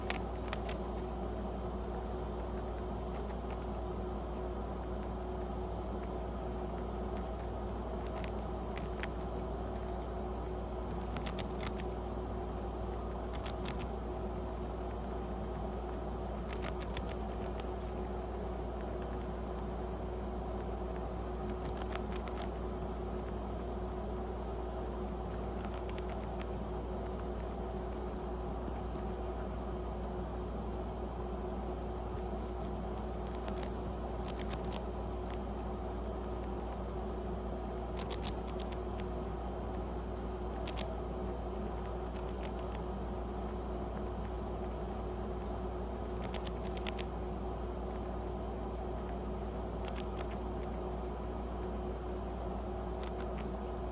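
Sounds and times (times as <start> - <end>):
rat crunching a cracker: 0.0 - 29.9, 31.0 - 53.9
steady background hum: 0.0 - 53.9.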